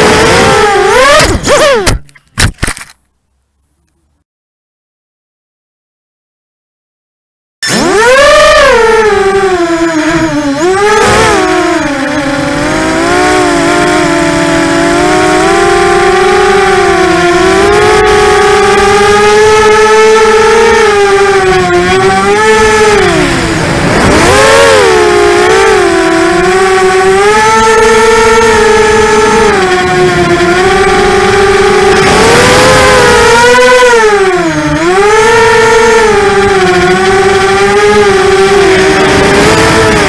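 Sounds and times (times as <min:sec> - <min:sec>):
quadcopter motors whining: 0:00.0 - 0:02.0, 0:07.6 - 0:40.0.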